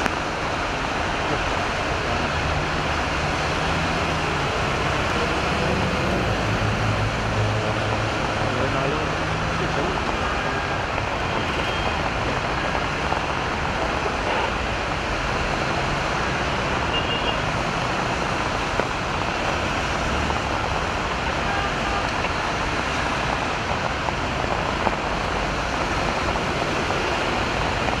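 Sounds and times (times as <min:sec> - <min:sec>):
traffic engines running: 0:00.0 - 0:28.0
tyres hissing on wet asphalt: 0:00.0 - 0:28.0.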